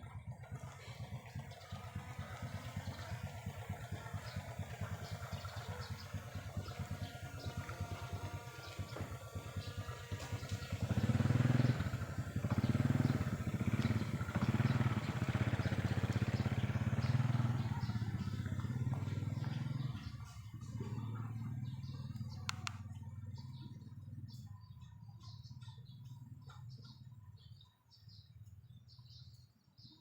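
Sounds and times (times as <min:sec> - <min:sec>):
engine revving: 0:00.0 - 0:24.5.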